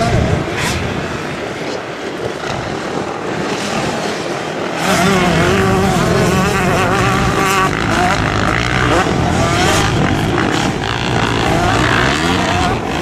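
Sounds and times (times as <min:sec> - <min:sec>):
bike engine revving nearby: 0:00.0 - 0:13.0
motocross bike engines: 0:00.0 - 0:13.0.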